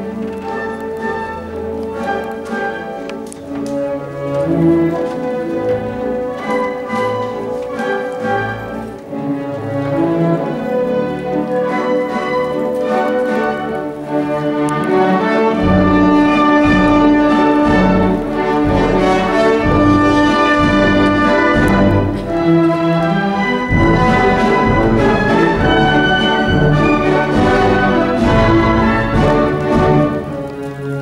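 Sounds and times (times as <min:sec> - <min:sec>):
orchestral ballet music: 0:00.0 - 0:31.0.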